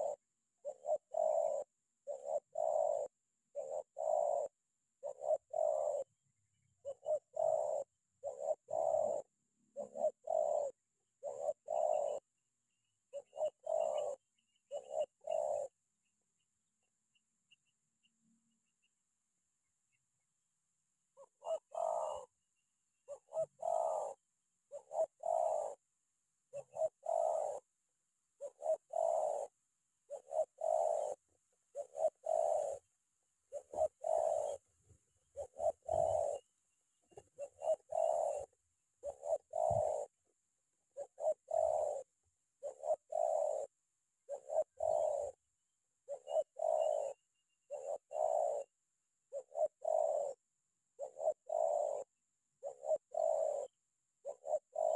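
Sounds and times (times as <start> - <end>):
dove cooing: 0.0 - 19.1, 21.0 - 54.9.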